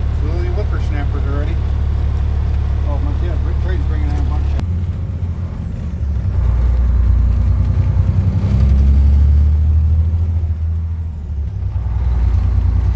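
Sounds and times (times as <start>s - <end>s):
road noise: 0.0s - 12.9s
truck engine drone: 0.0s - 12.9s.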